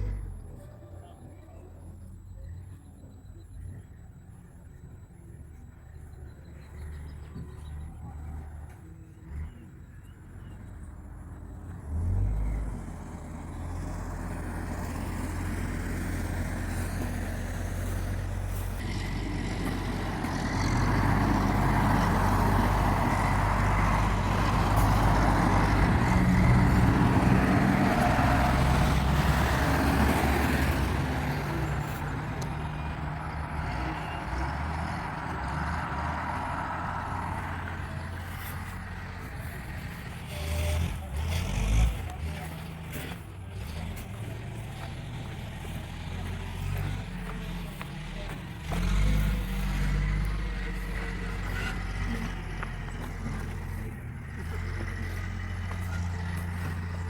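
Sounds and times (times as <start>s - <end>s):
road noise: 0.0s - 57.0s
vehicle engine humming: 0.0s - 57.0s.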